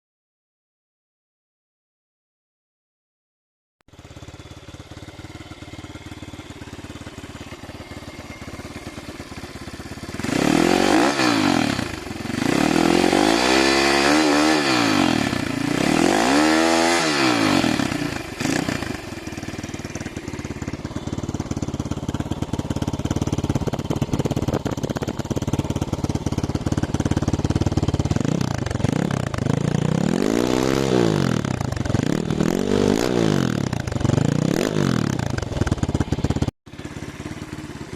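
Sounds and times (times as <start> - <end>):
motorbike engine idling and revving: 3.9 - 37.9.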